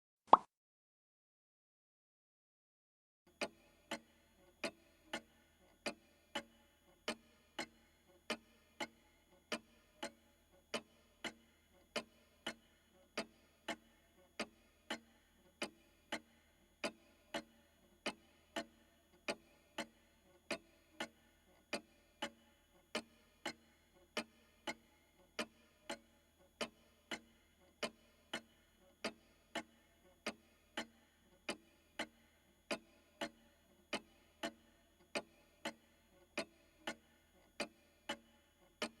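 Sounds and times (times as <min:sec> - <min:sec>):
pendulum clock ticking: 0:03.3 - 0:39.0.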